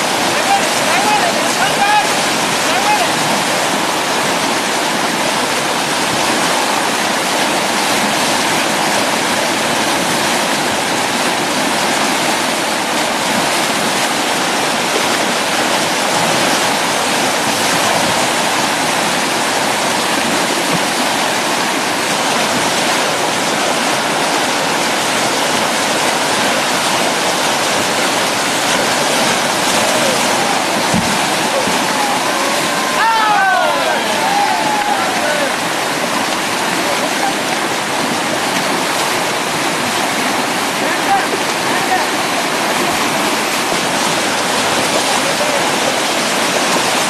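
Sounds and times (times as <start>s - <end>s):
river rapid rushing: 0.0s - 47.0s.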